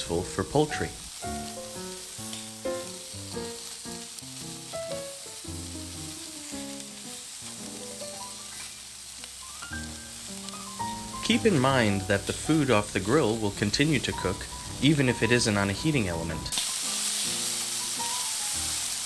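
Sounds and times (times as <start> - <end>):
background music: 0.0 - 8.6, 9.3 - 19.0
chicken sizzling on grill: 0.0 - 19.0.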